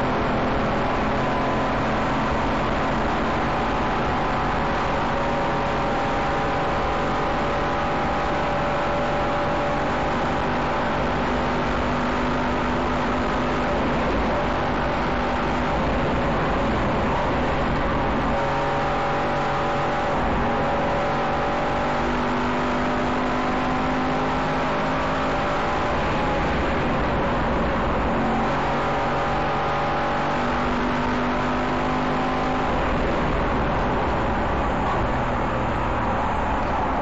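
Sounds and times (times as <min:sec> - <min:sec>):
tyre and road noise: 0:00.0 - 0:22.1, 0:22.8 - 0:37.0
car engine revving: 0:00.0 - 0:37.0.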